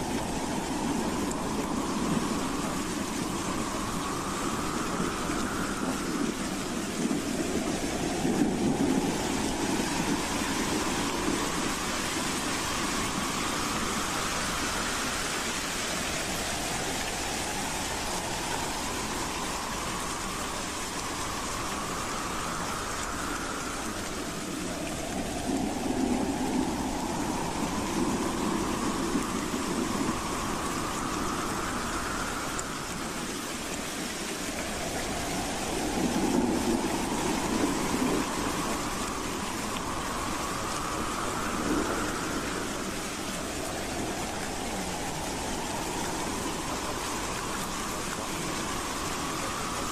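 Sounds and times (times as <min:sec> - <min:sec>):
howling wind: 0:00.0 - 0:49.9.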